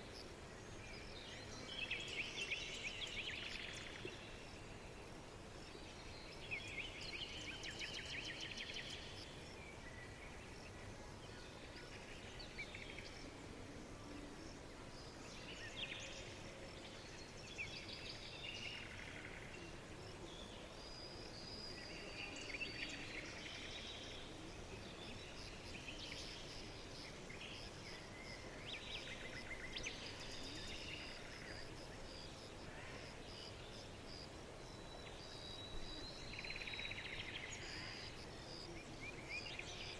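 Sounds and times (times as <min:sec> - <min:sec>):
faint background hiss: 0:00.0 - 0:39.9
songbirds singing and chirping: 0:00.0 - 0:39.9.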